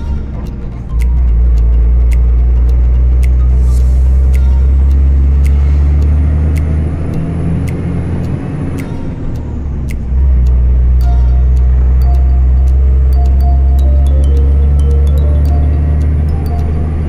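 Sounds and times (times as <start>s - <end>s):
sharp clicks: 0.0s - 17.0s
vehicle engine and road rumble: 0.0s - 17.0s.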